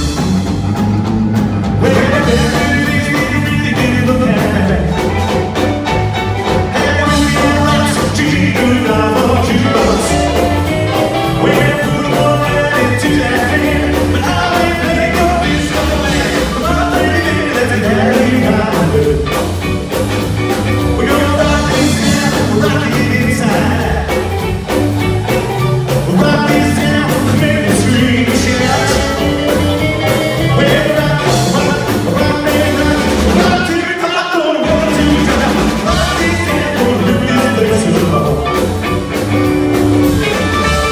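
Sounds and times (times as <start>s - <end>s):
slapped upright bass: 0.0s - 33.8s, 34.6s - 40.9s
drums: 0.0s - 40.9s
electric guitar: 0.0s - 40.9s
piano: 0.0s - 40.9s
lead vocal singing: 1.6s - 5.8s, 6.4s - 19.8s, 20.6s - 24.6s, 25.6s - 38.8s.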